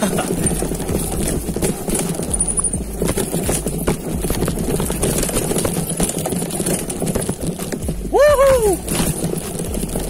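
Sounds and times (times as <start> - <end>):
bike rattling over bumps: 0.0 - 10.0.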